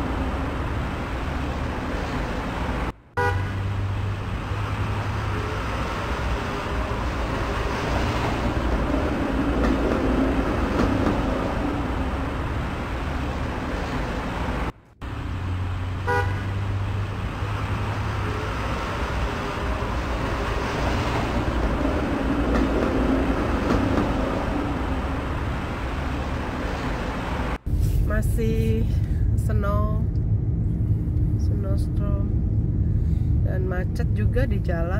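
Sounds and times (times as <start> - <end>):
car engine hum: 0.0 - 34.9.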